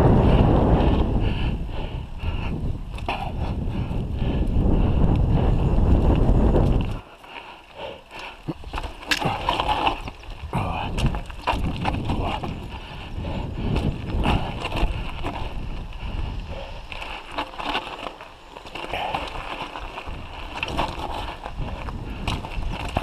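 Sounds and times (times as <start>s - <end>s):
bike rattles and knocks: 2.2s - 23.0s
tyres crunching over stones: 4.4s - 23.0s.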